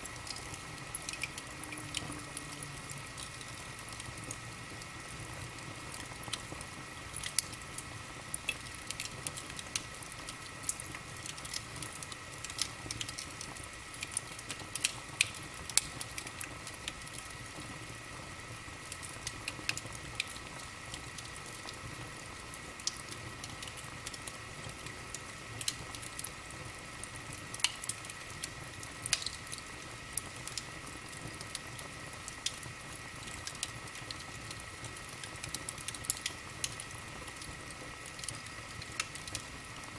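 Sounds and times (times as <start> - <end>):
steady low hiss: 0.0 - 39.9
wood fire crackling: 0.0 - 39.9.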